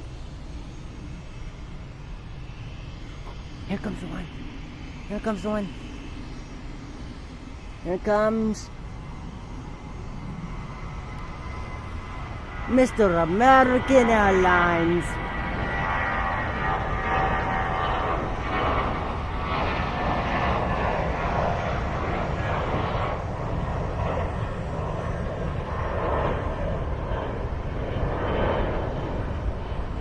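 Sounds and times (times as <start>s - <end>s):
airliner jet engines rushing: 0.0s - 30.0s.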